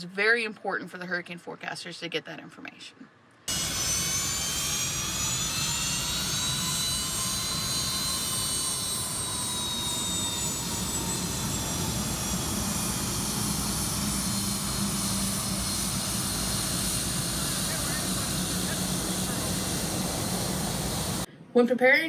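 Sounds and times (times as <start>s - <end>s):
jet engine whine: 3.5s - 21.3s
steady engine rumble: 3.5s - 21.3s.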